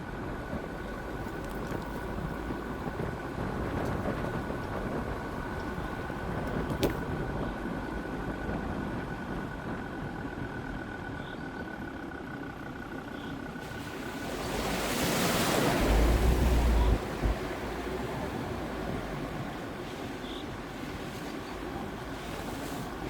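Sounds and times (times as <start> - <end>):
diesel engine running: 0.0 - 23.0
rushing noise with low buffeting: 0.0 - 23.0.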